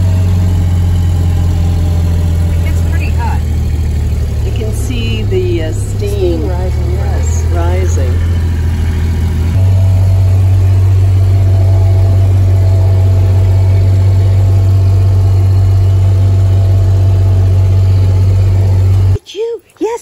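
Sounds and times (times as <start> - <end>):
vehicle engine and road noise: 0.0 - 19.2.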